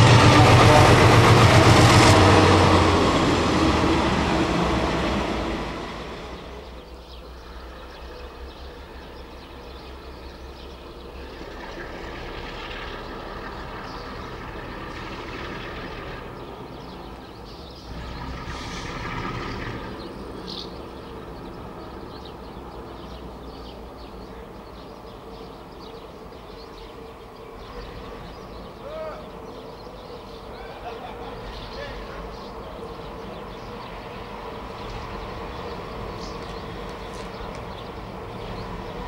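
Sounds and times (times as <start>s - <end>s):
diesel locomotive engine drone: 0.0s - 39.0s.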